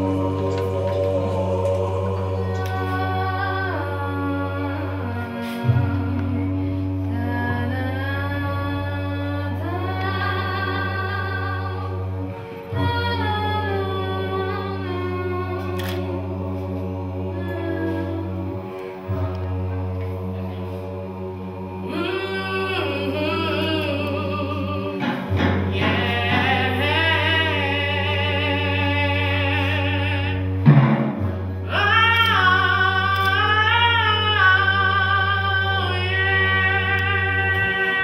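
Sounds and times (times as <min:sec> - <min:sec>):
woman singing with vibrato: 0:00.0 - 0:30.6, 0:31.6 - 0:38.0
low drone: 0:00.0 - 0:38.0.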